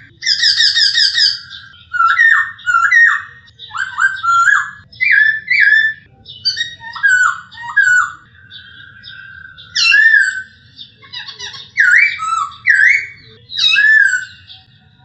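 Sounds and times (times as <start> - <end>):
bird singing whistled phrases: 0.0 - 14.7.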